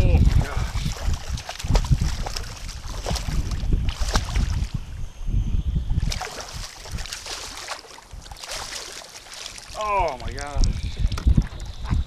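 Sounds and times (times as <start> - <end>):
fish splashing at surface: 0.0 - 4.7, 6.0 - 11.2
wind on microphone: 0.0 - 8.8, 9.5 - 12.0.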